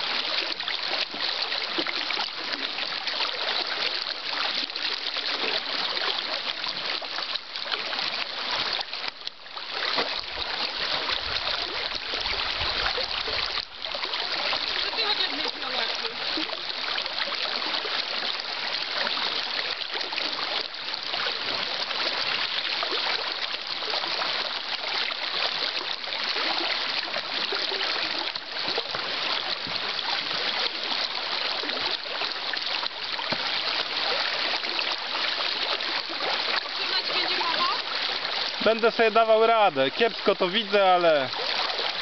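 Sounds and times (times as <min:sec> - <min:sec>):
river water rushing over stones: 0:00.0 - 0:42.0.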